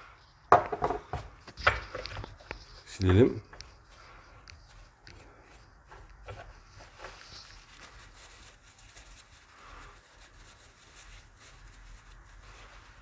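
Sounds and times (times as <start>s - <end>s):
paper tissue rustling: 1.3s - 13.0s.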